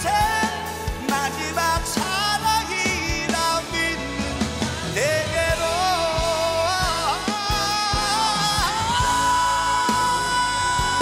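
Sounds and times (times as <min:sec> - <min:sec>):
live band with drums: 0:00.0 - 0:11.0
man singing a ballad: 0:00.0 - 0:11.0.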